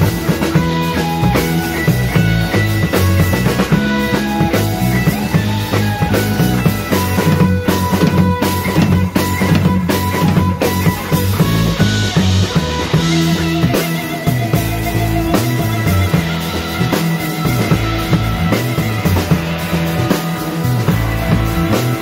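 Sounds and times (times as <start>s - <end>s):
drum kit: 0.0s - 22.0s
electric guitar: 0.0s - 22.0s.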